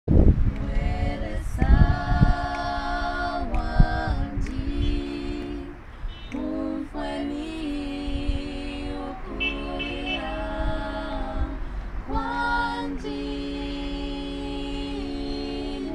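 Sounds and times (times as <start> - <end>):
women singing a cappella hymn: 0.3 - 15.9.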